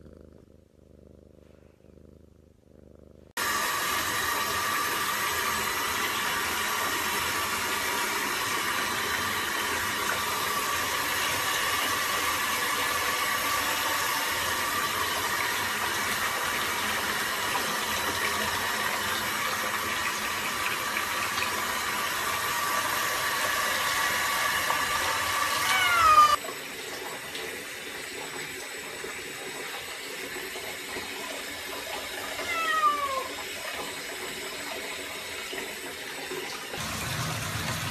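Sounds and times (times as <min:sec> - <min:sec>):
water running into bathtub: 0:03.4 - 0:37.9.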